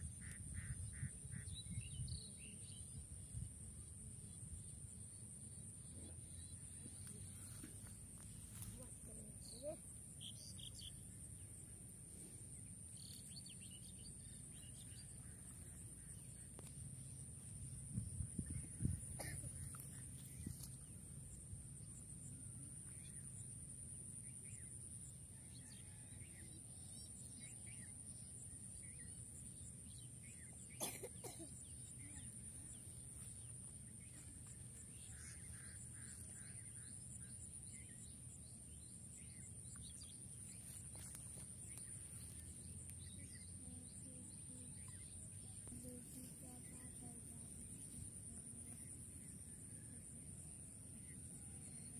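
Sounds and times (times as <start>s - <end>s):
faint bird chirps: 0.1s - 23.5s, 24.1s - 51.9s.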